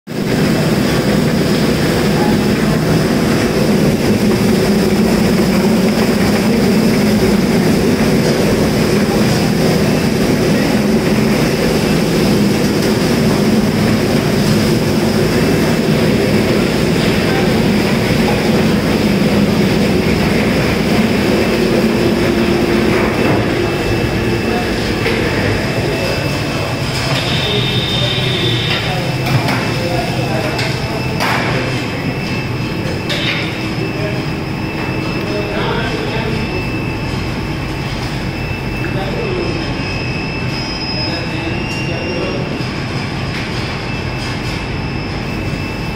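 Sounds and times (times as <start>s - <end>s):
machine hum with high whine: 0.1s - 45.9s.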